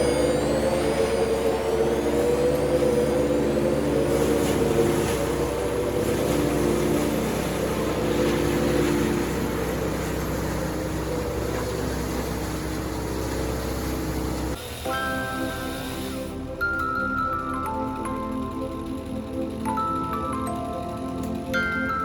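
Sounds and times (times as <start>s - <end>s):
heavy engine droning: 0.0s - 22.0s.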